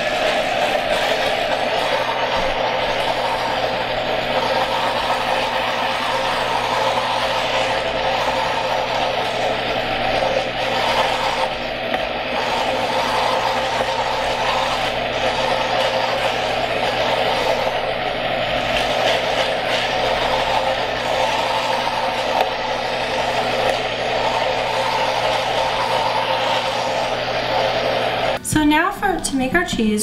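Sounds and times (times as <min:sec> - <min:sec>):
blender motor running: 0:00.0 - 0:28.4.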